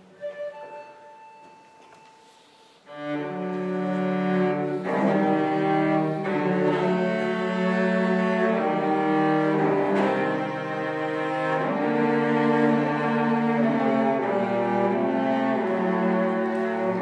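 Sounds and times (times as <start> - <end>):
cello and strings playing: 0.0 - 17.0.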